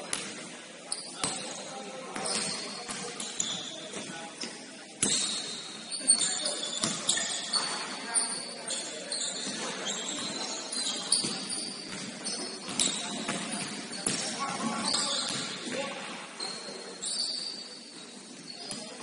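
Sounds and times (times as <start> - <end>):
players' voices in a hall: 0.0 - 19.0
sneakers squeaking: 0.0 - 19.0.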